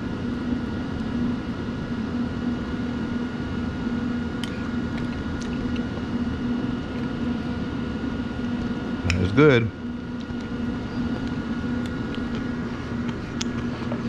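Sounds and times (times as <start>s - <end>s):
kitchen equipment hum and fans: 0.0s - 14.0s.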